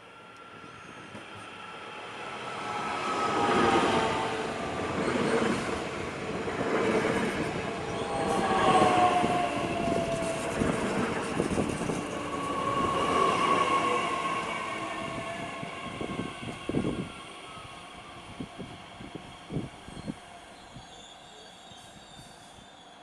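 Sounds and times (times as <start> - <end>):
electric train passing: 0.0 - 23.0
train brakes whining: 0.2 - 23.0.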